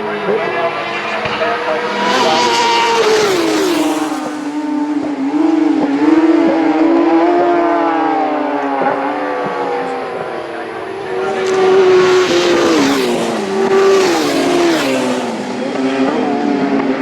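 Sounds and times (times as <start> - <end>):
racing motorcycle passing: 0.0 - 17.0.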